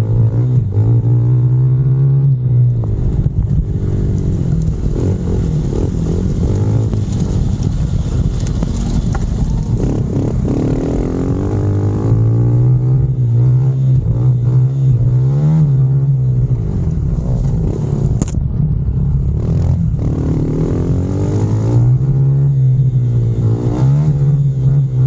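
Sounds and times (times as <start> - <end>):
wind rumble: 0.0 - 25.0
motorbike engine revving: 3.2 - 18.4, 19.2 - 25.0.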